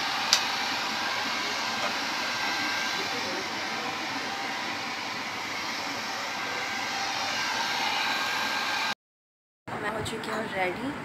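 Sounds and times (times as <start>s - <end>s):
hair dryer blowing: 0.0s - 9.0s.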